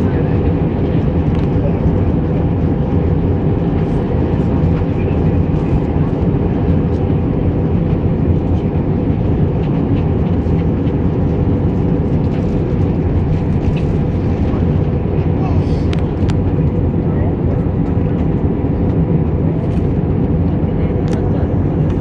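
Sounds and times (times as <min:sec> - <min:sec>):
jet engines droning: 0:00.0 - 0:22.0.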